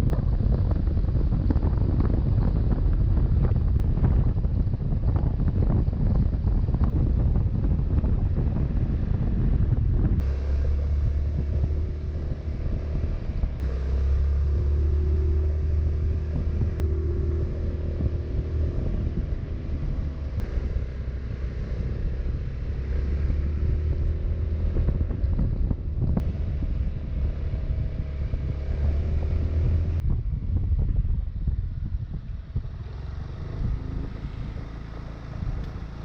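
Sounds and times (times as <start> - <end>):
wind rumble on microphone: 0.0 - 36.0.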